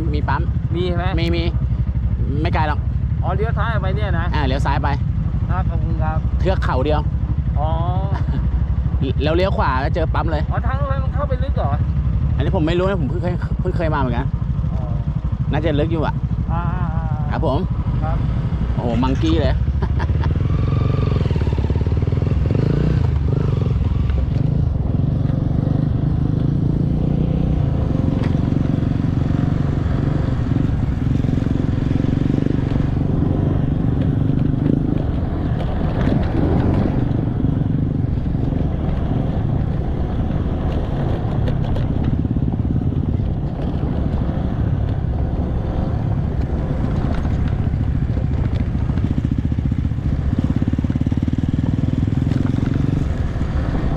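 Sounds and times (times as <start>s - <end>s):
vehicle engine running: 0.0s - 53.9s.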